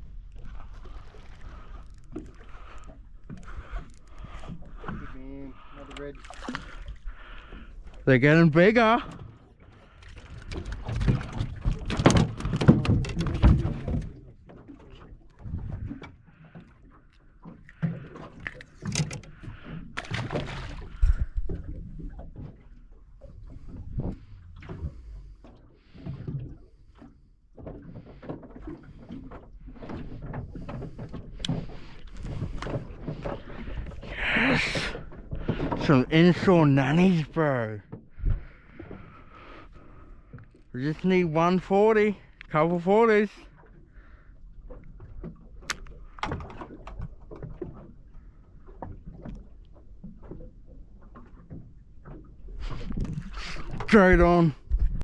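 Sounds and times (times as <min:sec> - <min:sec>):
water lapping against boat hull: 0:00.0 - 0:55.0.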